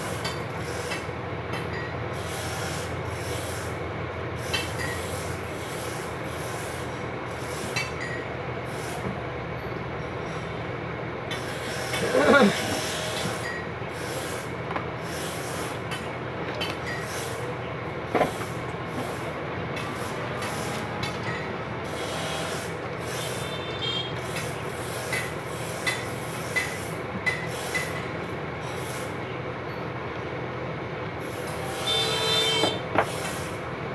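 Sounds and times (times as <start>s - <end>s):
steady background noise: 0.0s - 33.9s.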